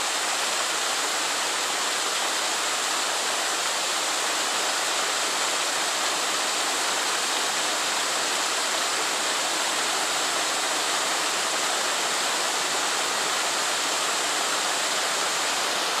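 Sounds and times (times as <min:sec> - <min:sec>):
rush of flowing water: 0:00.0 - 0:16.0.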